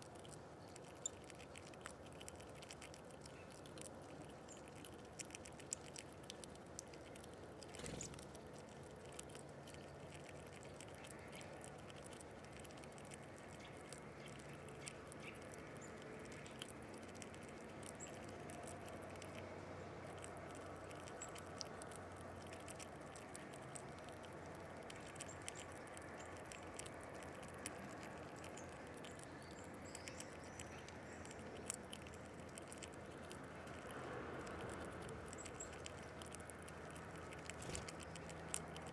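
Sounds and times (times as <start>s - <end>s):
low background hum: 0.0s - 38.9s
small animals tapping at feeder: 0.0s - 38.9s.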